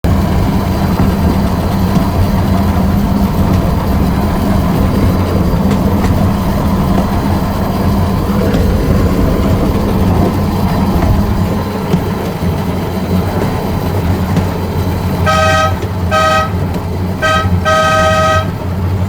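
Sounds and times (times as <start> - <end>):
small train rumbling on track: 0.0 - 19.0.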